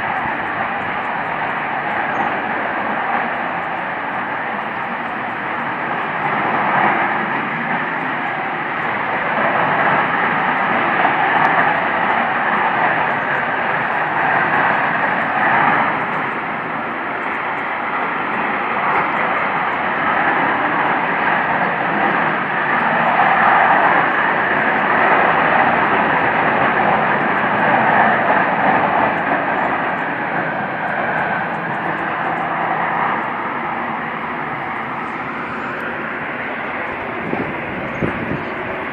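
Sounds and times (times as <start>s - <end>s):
loud steady noise overhead: 0.0s - 38.9s.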